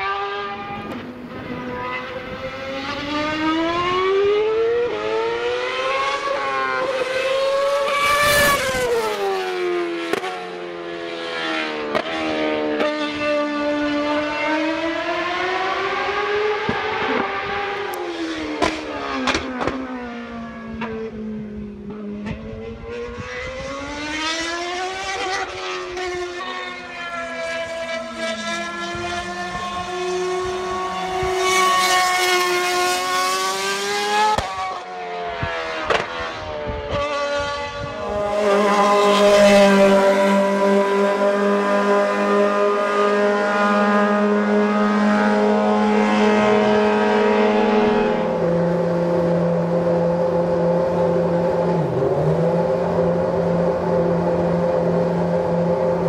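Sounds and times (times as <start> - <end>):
racing car engine at high revs: 0.0 - 56.0.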